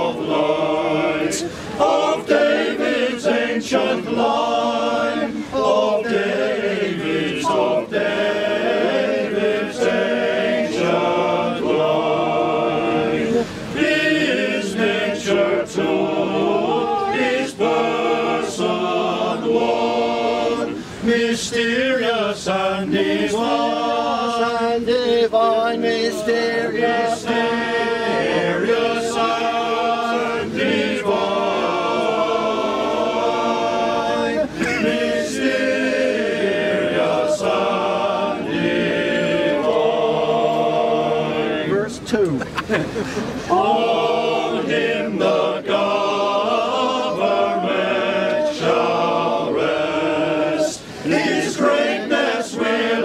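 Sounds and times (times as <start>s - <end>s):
choir singing unaccompanied: 0.0s - 53.0s.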